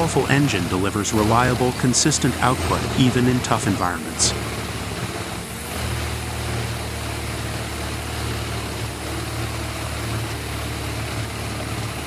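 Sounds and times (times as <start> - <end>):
tree chipper running: 0.0 - 12.0.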